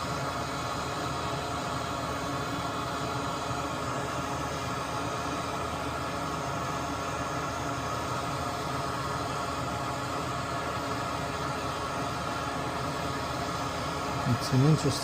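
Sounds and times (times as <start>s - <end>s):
electric fan whirring: 0.0s - 15.0s.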